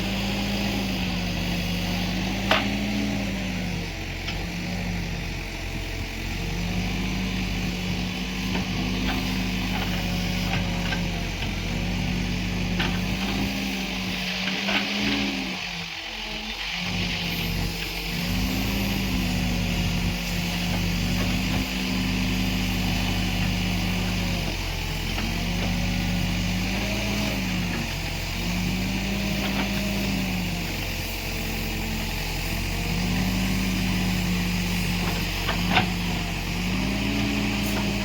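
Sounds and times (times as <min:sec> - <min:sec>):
backhoe diesel engine working: 0:00.0 - 0:38.0.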